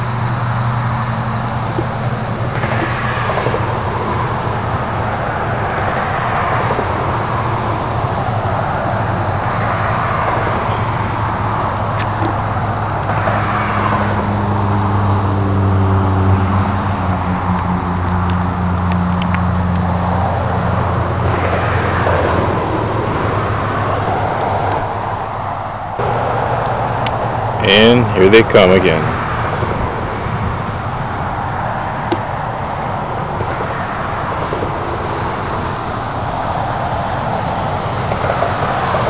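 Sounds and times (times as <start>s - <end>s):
crickets chirping: 0.0s - 39.0s
low engine hum: 0.0s - 39.0s.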